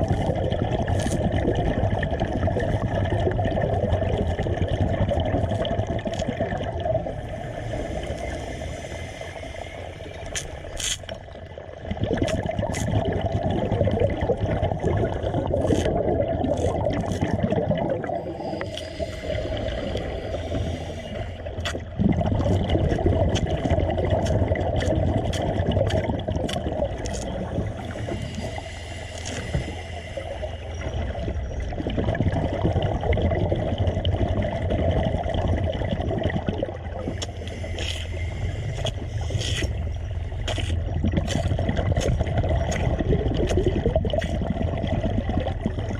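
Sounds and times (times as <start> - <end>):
low mechanical hum: 0.0 - 45.9
water gurgling and churning: 0.0 - 45.9.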